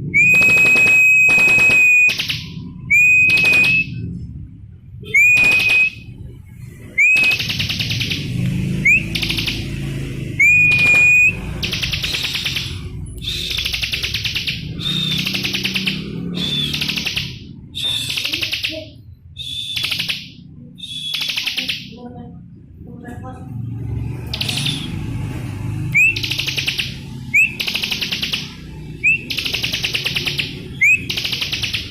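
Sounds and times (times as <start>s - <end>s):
bird whistle and buzzy trill: 0.0s - 4.2s, 5.0s - 6.2s, 6.8s - 22.0s, 24.2s - 25.1s, 25.8s - 31.9s.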